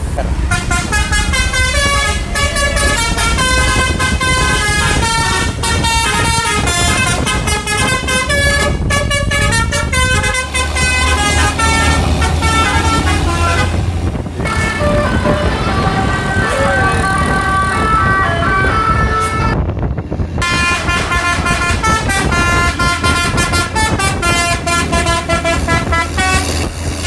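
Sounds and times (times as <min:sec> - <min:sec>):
bus engine rumbling: 0:00.0 - 0:27.0
musical bus horn melody: 0:00.4 - 0:19.7, 0:20.4 - 0:27.0.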